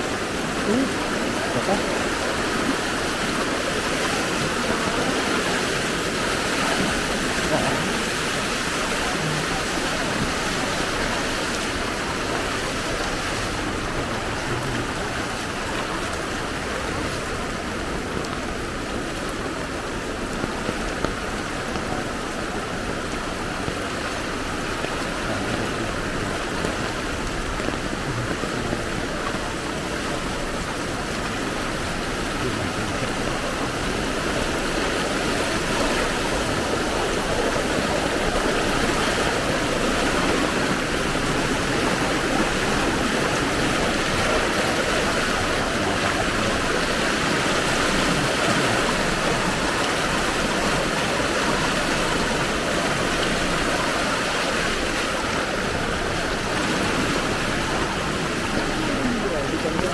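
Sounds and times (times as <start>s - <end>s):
rain: 0.0s - 59.9s
rushing floodwater: 0.0s - 59.9s.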